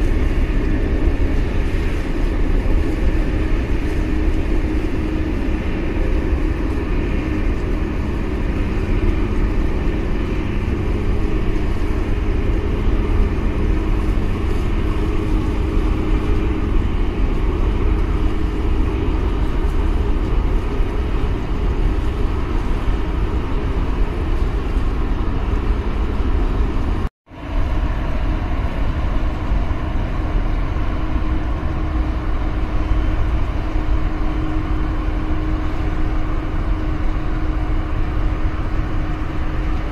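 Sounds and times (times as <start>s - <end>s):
boat engine rumble: 0.0s - 39.9s
water noise: 0.0s - 39.9s
wind: 0.0s - 39.9s.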